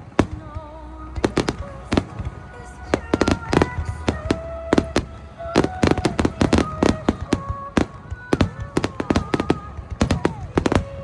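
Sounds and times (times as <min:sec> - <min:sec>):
fireworks bangs and crackles: 0:00.0 - 0:11.0
low rumble: 0:00.0 - 0:11.0.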